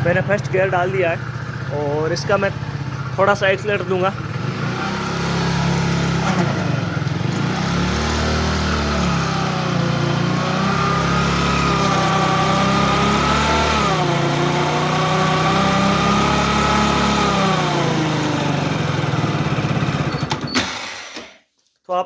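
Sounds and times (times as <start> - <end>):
motorcycle engine running: 0.0 - 20.5.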